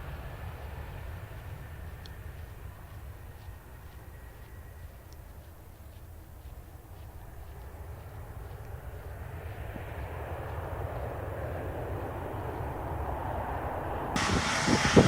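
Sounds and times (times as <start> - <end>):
jet engine rumble: 0.0 - 5.1, 6.8 - 15.0.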